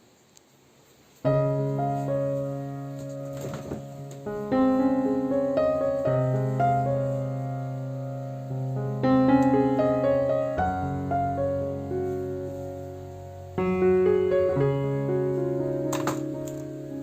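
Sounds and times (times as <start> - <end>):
gentle piano music: 1.2 - 17.0.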